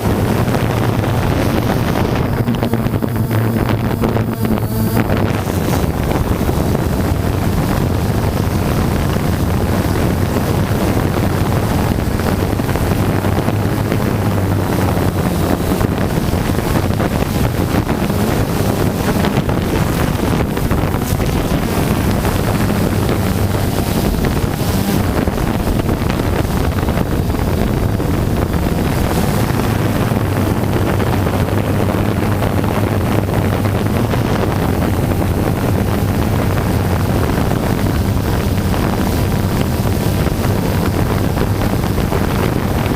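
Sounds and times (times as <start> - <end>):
aircraft engine drone: 0.0 - 42.9
wind buffeting microphone: 0.0 - 42.9.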